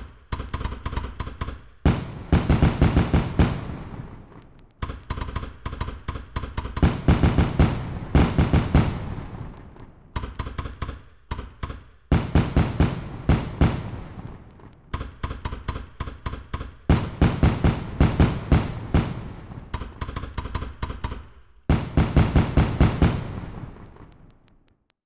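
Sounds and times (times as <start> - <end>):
fireworks bangs and crackling: 1.8 - 6.0, 6.6 - 10.9, 12.1 - 21.0, 21.7 - 24.8.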